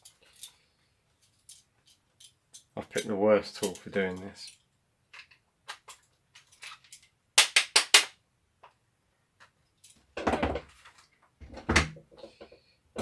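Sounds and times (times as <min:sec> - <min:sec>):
plastic parts clicking and knocking: 0:01.5 - 0:08.8, 0:09.4 - 0:12.6.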